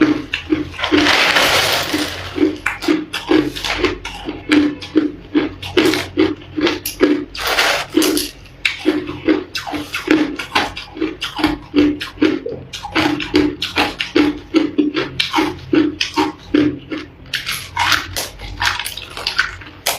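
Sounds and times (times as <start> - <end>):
ice being chewed: 0.0 - 19.9.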